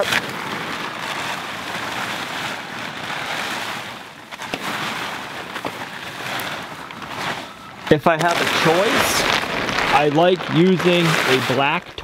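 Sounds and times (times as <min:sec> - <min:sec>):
plastic tarp rustling: 0:00.0 - 0:12.0.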